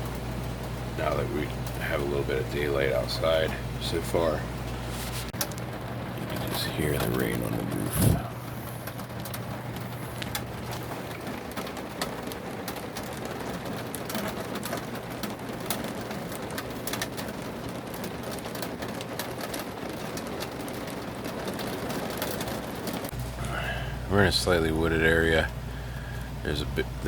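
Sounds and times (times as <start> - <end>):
low steady hum: 0.0 - 19.2, 23.0 - 27.0
rain drops hitting: 0.0 - 27.0.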